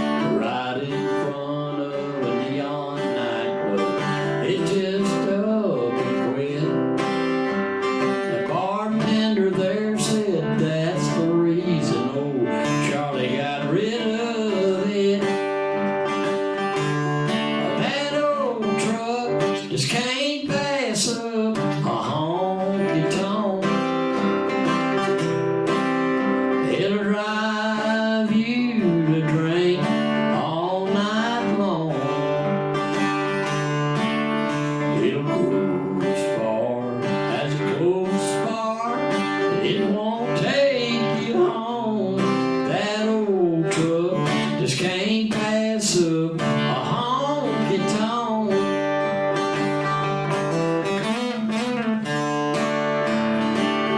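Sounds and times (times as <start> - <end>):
acoustic guitar strummed and picked: 0.0 - 53.9
man singing country song: 0.0 - 53.9.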